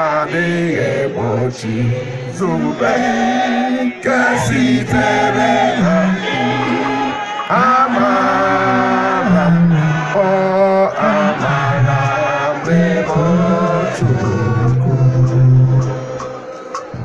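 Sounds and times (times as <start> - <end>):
chant-like singing: 0.0 - 17.0
music: 0.0 - 17.0.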